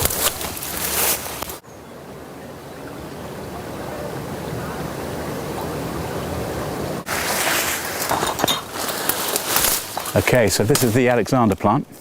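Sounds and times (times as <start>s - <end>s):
stream water running: 0.0s - 11.9s
low noise: 0.0s - 12.0s.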